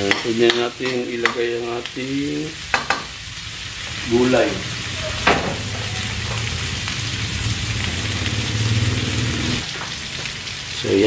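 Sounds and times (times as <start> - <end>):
meat frying in oil: 0.0 - 11.0.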